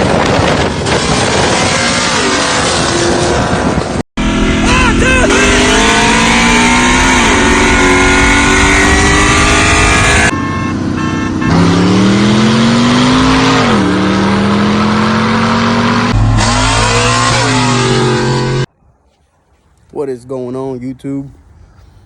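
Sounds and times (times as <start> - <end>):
car engine revving: 0.6 - 18.7.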